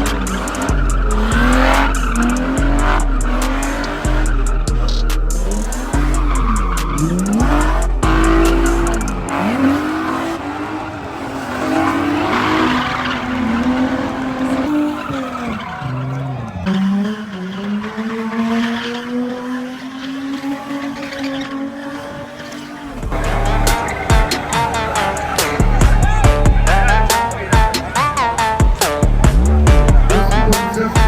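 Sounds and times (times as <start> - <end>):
car engine revving: 0.0 - 31.0
tyre squeal: 0.0 - 31.0.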